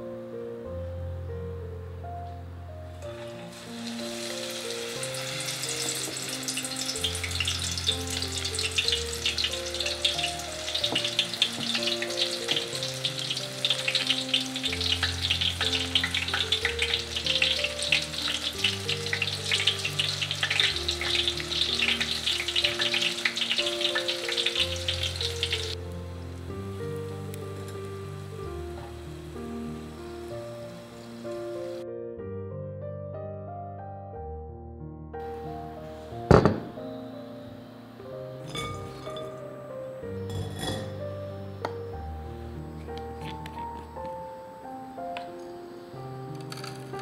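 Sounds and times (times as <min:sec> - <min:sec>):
soft background music: 0:00.0 - 0:47.0
mushrooms sizzling in oil: 0:03.0 - 0:31.8, 0:38.1 - 0:47.0.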